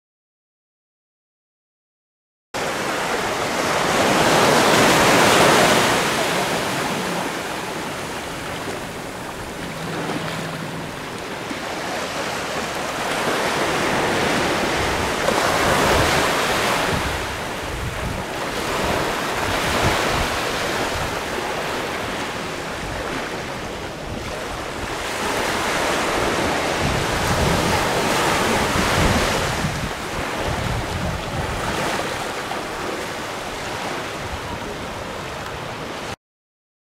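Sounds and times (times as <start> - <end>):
waves washing over rocks: 2.7 - 35.8
wind on microphone: 3.1 - 36.1.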